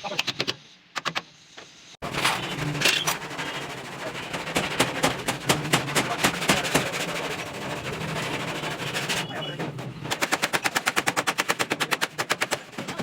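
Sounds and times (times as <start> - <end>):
rapid sharp tool impacts: 2.0 - 13.0
steady tool noise: 2.0 - 13.0.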